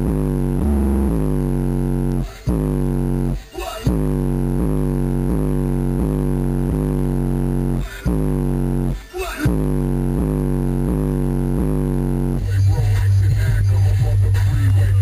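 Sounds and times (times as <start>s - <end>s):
bass-heavy music: 0.0s - 15.0s.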